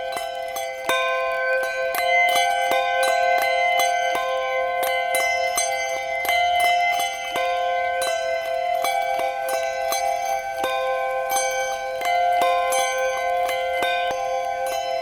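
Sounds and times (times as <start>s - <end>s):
handbells ringing: 0.0s - 15.0s.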